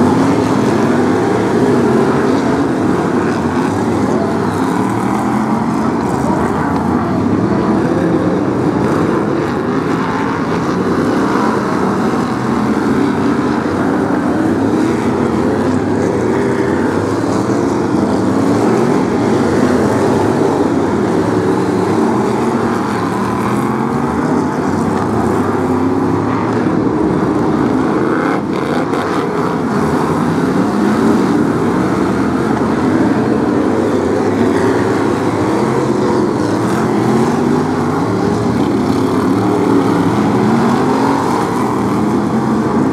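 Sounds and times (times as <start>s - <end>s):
racing car engines: 0.0s - 42.9s.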